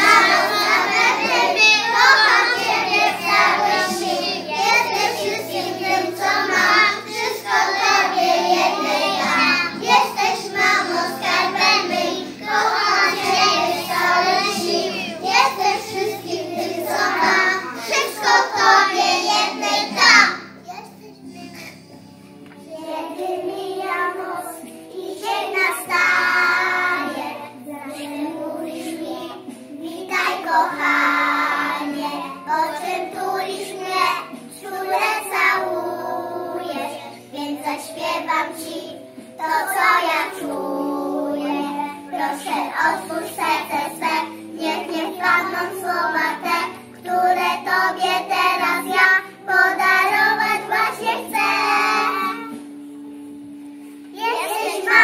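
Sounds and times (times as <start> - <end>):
children singing in unison: 0.0 - 20.6, 21.6 - 52.9, 54.0 - 55.0
instrumental accompaniment: 0.0 - 55.0.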